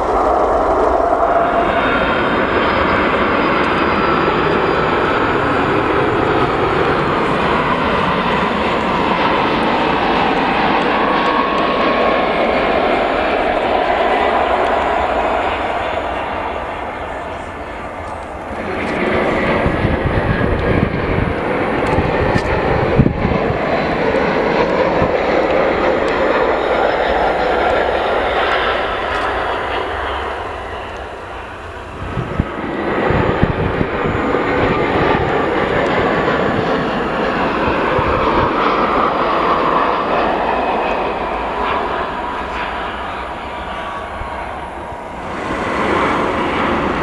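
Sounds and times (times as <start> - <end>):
jet engines landing: 0.0 - 47.0.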